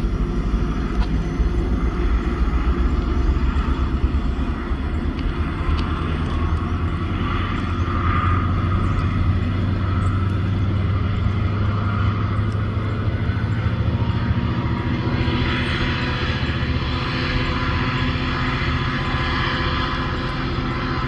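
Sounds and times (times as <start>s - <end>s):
locomotive engine droning: 0.0s - 21.0s.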